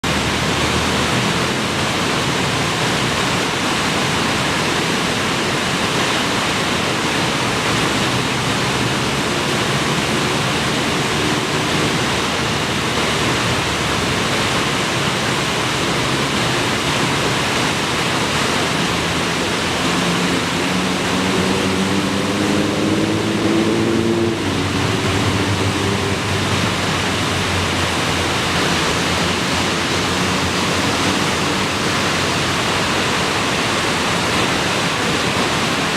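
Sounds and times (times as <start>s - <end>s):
waterfall roaring: 0.0s - 35.9s.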